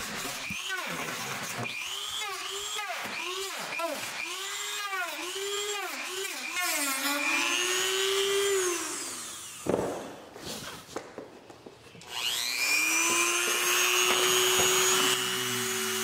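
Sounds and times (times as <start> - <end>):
rotary tool whining: 0.0 - 9.7, 12.0 - 16.0.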